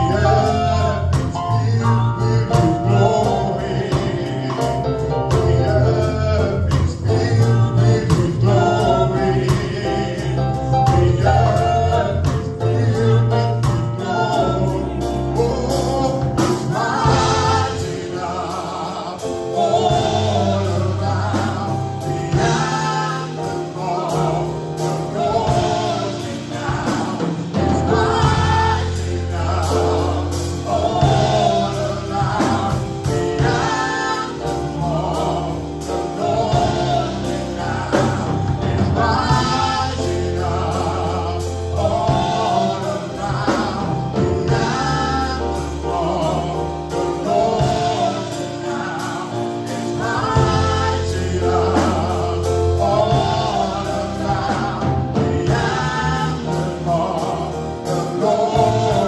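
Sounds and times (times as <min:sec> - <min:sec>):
bass: 0:00.0 - 0:59.0
choir singing: 0:00.0 - 0:59.0
drums: 0:00.0 - 0:59.0.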